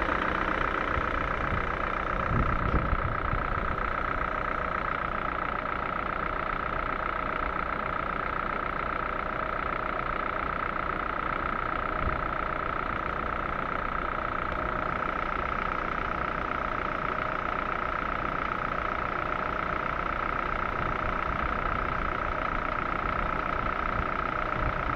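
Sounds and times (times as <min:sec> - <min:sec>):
car engine running: 0:00.0 - 0:24.9
engine knocking: 0:00.0 - 0:24.9.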